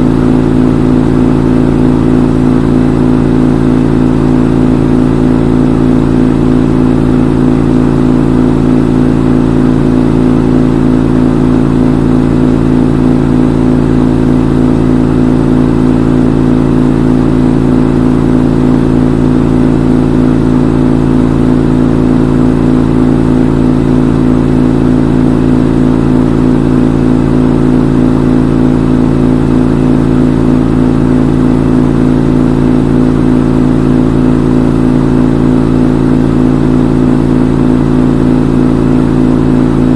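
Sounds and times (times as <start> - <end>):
washing machine spin hum: 0.0 - 39.9.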